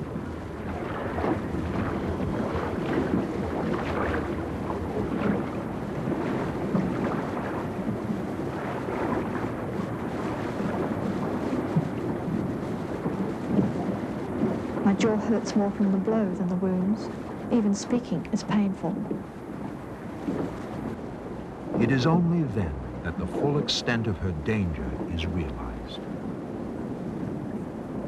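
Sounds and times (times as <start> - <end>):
sea water washing around boat: 0.0 - 28.0
wind noise on microphone: 0.0 - 28.0.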